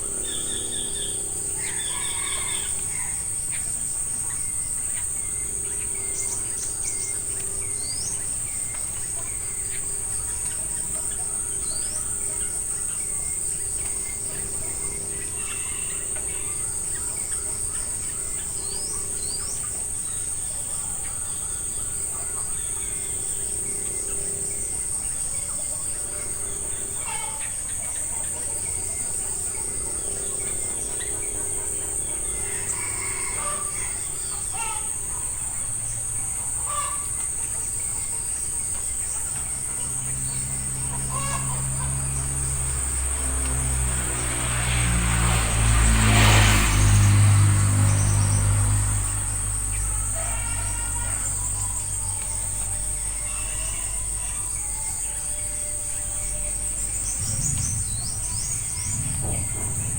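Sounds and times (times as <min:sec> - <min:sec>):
birds chirping: 0:00.0 - 0:59.9
high-pitched insect drone: 0:00.0 - 0:59.9.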